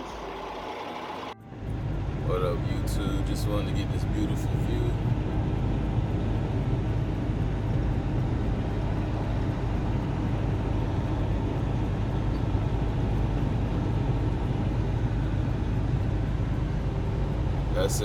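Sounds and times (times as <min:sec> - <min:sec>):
road rumble: 0:00.0 - 0:18.0
truck engine drone: 0:00.0 - 0:18.0.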